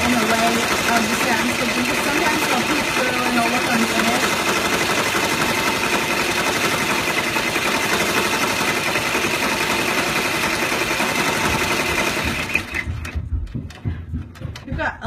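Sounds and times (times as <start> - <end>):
embroidery machine stitching: 0.0 - 13.8.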